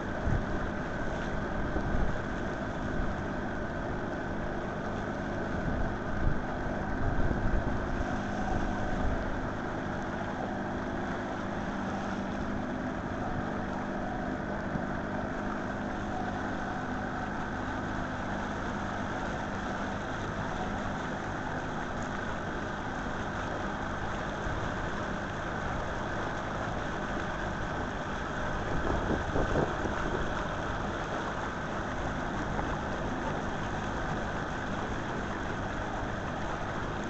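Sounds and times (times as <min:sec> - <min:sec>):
engine-like hum: 0:00.0 - 0:37.0.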